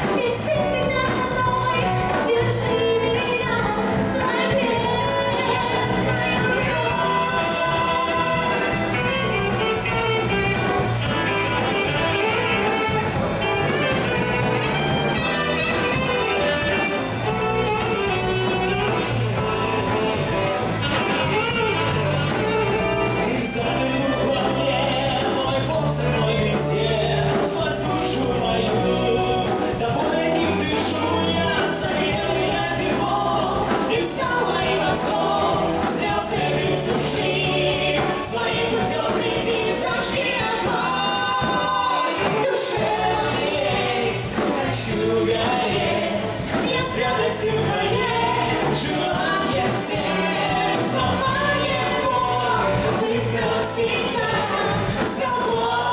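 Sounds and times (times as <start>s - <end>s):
person singing: 0.0s - 55.9s
rock worship song: 0.0s - 55.9s.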